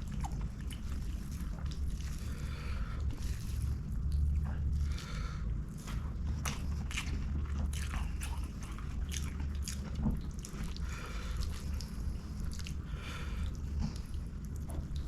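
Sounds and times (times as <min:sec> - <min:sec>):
close chewing with wet smacks: 0:00.0 - 0:15.0.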